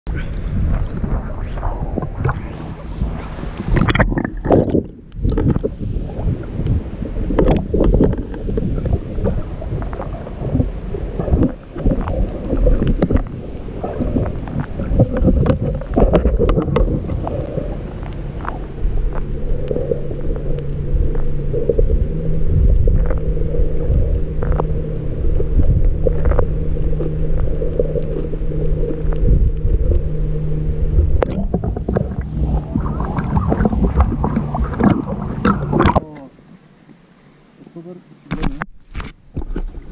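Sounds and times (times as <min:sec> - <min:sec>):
steady low hum: 0:00.1 - 0:36.6
muffled underwater rushing: 0:00.1 - 0:39.9
water sloshing and splashing: 0:00.3 - 0:37.0.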